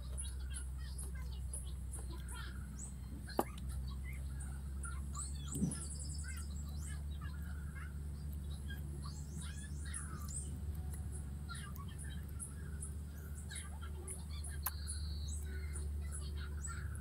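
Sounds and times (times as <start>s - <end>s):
birds chirping and twittering: 0.0s - 17.0s
steady low hum: 0.0s - 17.0s.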